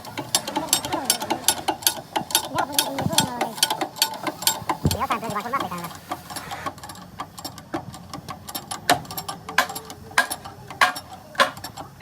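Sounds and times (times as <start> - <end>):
metal tapping and knocking: 0.0 - 12.0.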